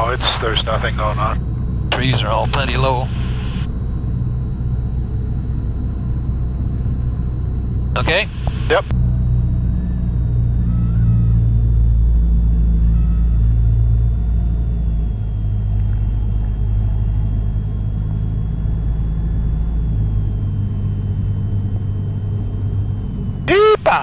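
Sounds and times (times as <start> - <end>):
faint high whine: 0.0 - 24.0
propeller plane engine droning: 0.0 - 24.0.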